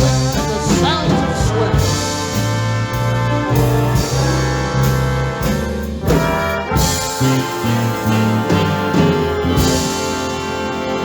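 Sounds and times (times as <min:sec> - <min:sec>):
big band swing: 0:00.0 - 0:11.0
brass section holding chords: 0:00.0 - 0:11.0
low bass line: 0:00.0 - 0:11.0.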